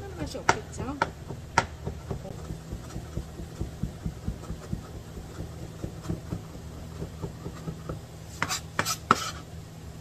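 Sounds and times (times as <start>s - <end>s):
steady low hum: 0.0s - 10.0s
knife chopping on plastic board: 0.4s - 9.3s.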